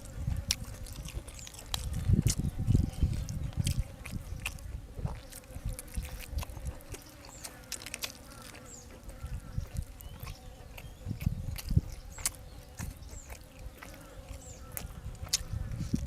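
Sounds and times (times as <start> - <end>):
person chewing and eating: 0.0 - 16.0.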